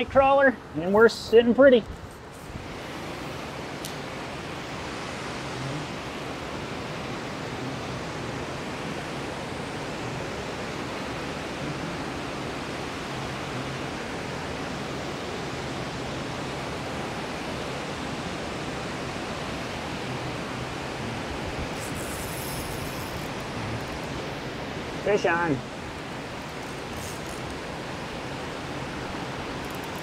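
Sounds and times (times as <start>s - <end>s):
river water rushing over dam: 0.0s - 30.0s.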